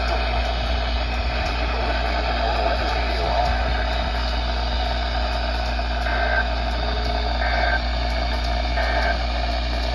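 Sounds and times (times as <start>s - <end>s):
radio static hiss: 0.0s - 9.5s
low hum: 0.0s - 9.9s.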